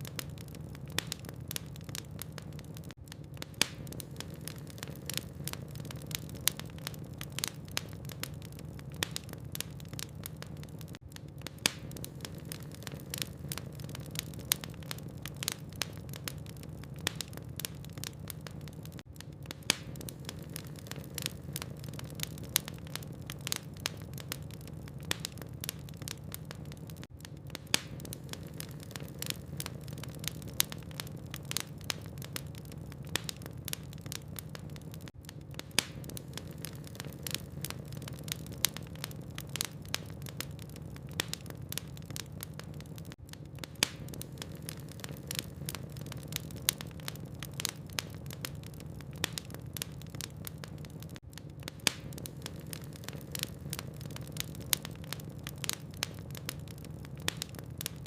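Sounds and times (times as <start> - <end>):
fire crackling and popping: 0.0 - 58.0
rush of flames: 0.0 - 58.0.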